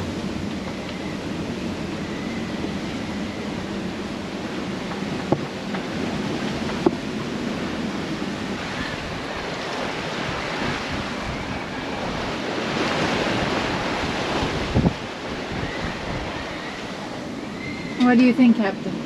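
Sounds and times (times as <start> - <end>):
water rushing past hull: 0.0 - 19.0
wind buffeting microphone: 0.0 - 19.0.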